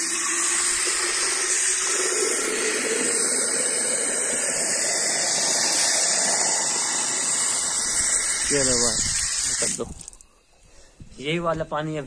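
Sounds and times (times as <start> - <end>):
tap water running into bottle: 0.0 - 10.2.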